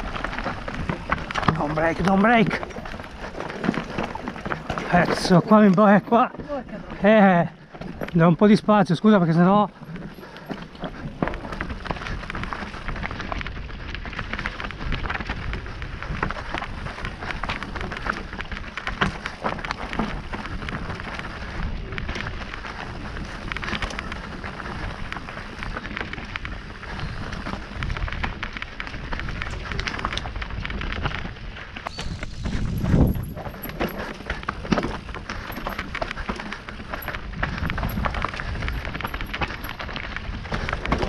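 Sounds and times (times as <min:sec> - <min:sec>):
wind rumble on microphone: 0:00.0 - 0:05.6, 0:09.7 - 0:41.0
bike knocking and rattling: 0:00.0 - 0:41.0
bike tyres crunching over stones: 0:00.0 - 0:41.0.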